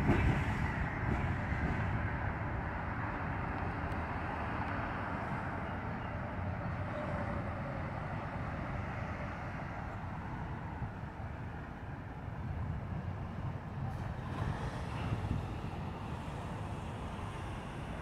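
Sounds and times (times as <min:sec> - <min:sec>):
freight train rumbling past: 0:00.0 - 0:18.0
road traffic: 0:00.0 - 0:18.0.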